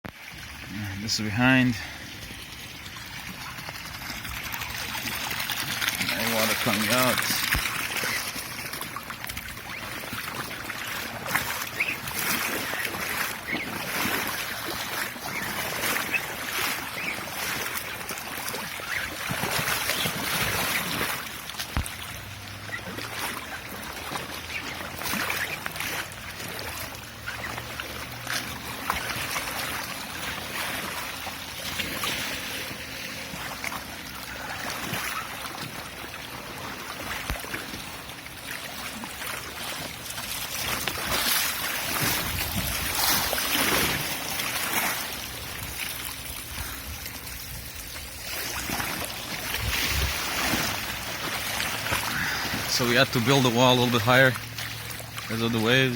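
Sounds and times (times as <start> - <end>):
floodwater sloshing and trickling: 0.1 - 55.9
water splashes: 0.1 - 55.9.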